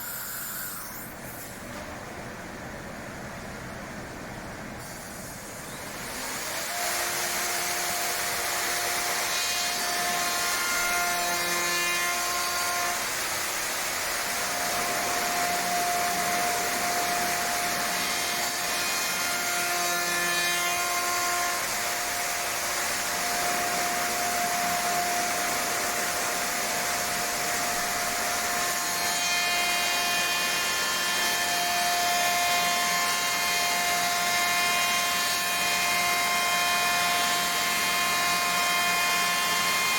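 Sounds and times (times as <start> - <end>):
machine cutting wood: 0.0 - 1.8, 5.1 - 39.9.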